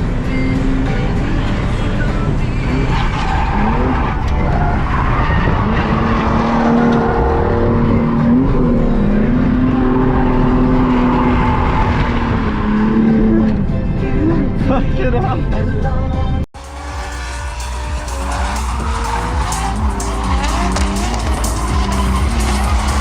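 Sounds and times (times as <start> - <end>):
car engine at high revs: 0.0 - 13.8, 16.6 - 23.0
tyres skidding: 0.0 - 14.5, 16.6 - 23.0.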